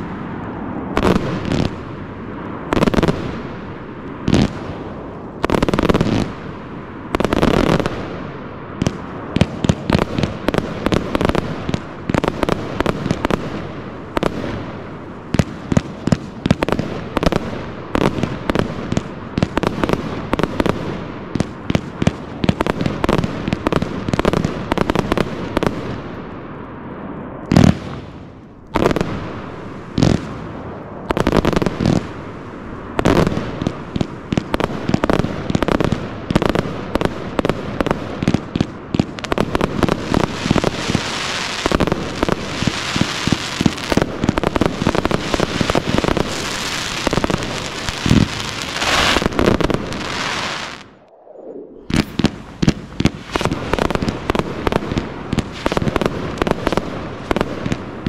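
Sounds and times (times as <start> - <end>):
firework barrage of sharp shots: 0.0 - 26.4, 27.1 - 58.0.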